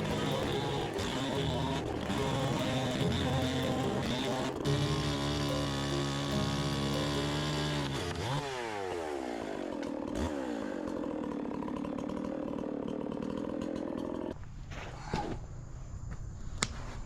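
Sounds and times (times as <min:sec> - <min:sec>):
chainsaw revving and idling: 0:00.0 - 0:14.4.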